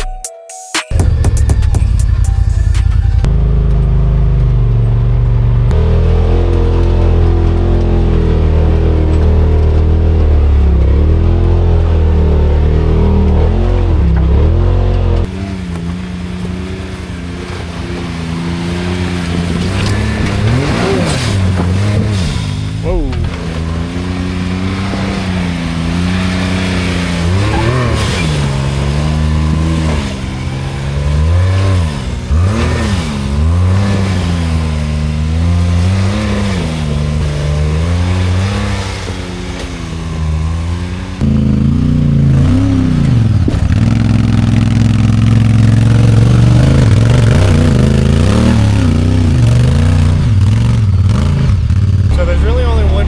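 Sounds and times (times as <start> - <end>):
utility vehicle engine revving: 0.9 - 53.0.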